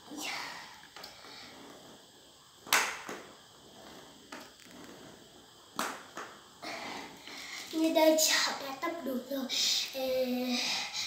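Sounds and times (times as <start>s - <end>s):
ab roller rolling on laminate floor: 0.0s - 10.9s.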